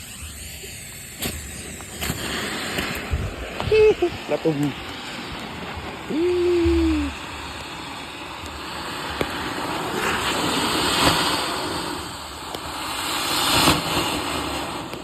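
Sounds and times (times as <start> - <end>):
sharp pops: 0.0 - 14.2
firework spraying hiss: 0.0 - 15.0.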